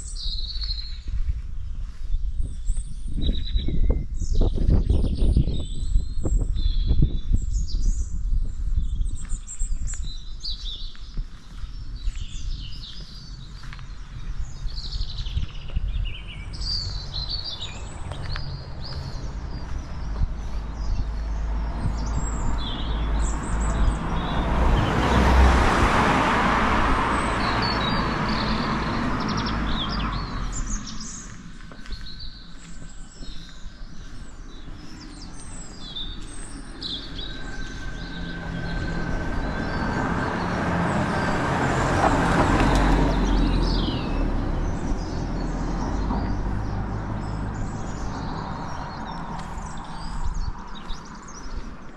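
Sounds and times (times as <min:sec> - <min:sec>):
small birds chirping: 0:00.0 - 0:25.2, 0:26.9 - 0:51.9.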